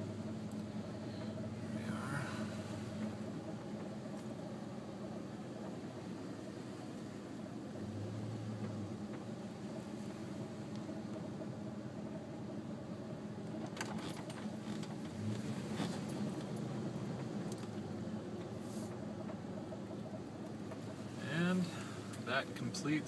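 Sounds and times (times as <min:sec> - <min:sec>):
vehicle driving hum: 0:00.0 - 0:23.0.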